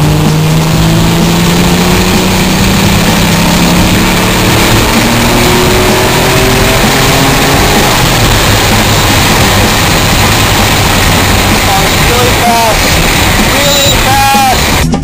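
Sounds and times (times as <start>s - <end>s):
car engine accelerating: 0.0s - 15.0s
road and wind noise: 0.0s - 15.0s.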